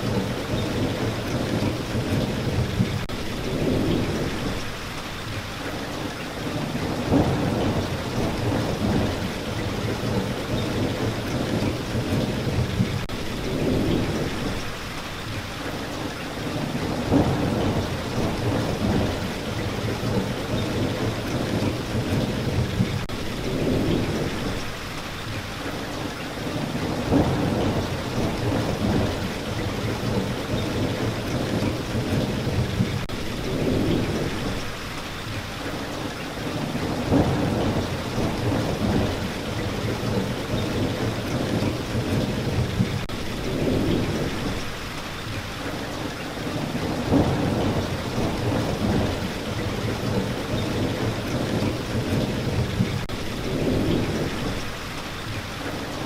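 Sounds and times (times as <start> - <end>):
low rolling thunder: 0.0 - 4.9, 6.4 - 14.8, 16.4 - 24.8, 26.4 - 34.8, 36.0 - 45.0, 45.6 - 56.0
heavy rain hissing: 0.0 - 56.0.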